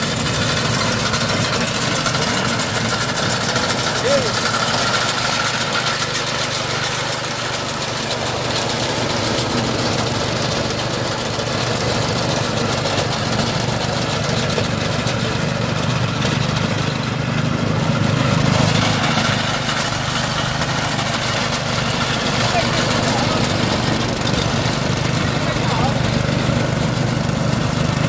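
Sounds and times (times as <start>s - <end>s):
small engine running under load: 0.0s - 28.0s.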